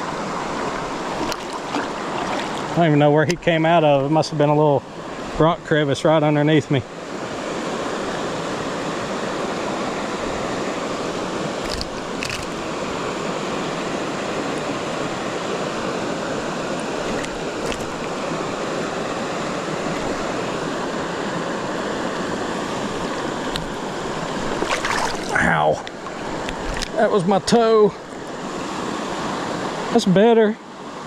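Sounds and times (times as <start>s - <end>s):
creek water flowing: 0.0s - 5.7s, 6.9s - 30.1s.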